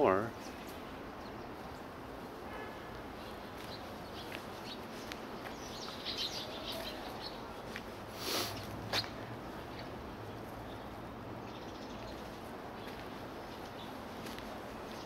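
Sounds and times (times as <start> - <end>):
city background hum: 0.0 - 15.0
small birds chirping: 0.0 - 15.0.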